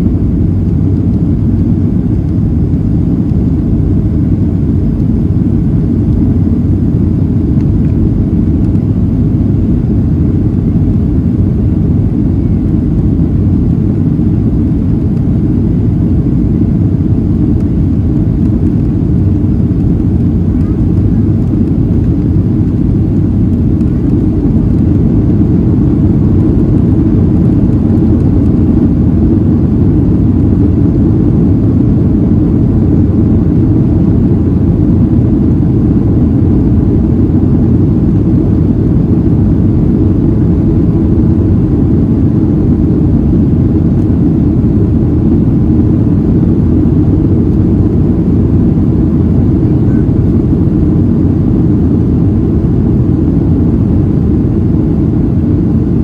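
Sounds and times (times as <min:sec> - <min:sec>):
jet cabin rumble: 0:00.0 - 0:56.0.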